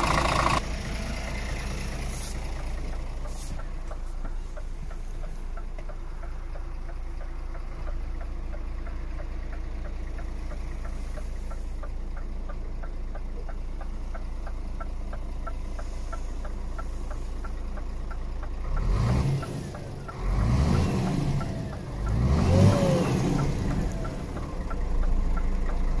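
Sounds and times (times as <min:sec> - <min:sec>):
diesel truck engine idling: 0:00.0 - 0:26.0
engine revving in short blips: 0:00.0 - 0:26.0.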